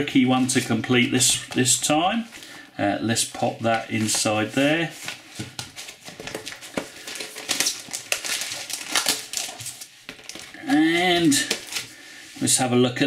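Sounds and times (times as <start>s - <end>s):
paper and plastic rustling: 0.1s - 12.6s.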